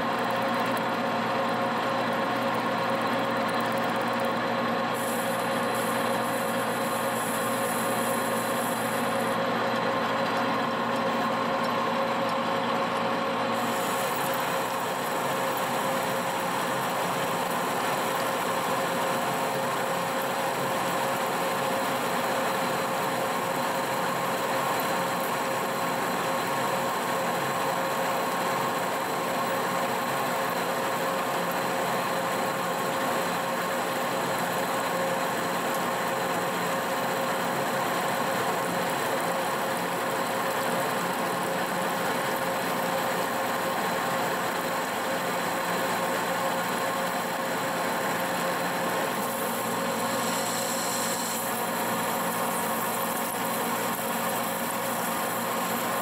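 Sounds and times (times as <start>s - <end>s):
lathe machining hum and whine: 0.0s - 56.0s.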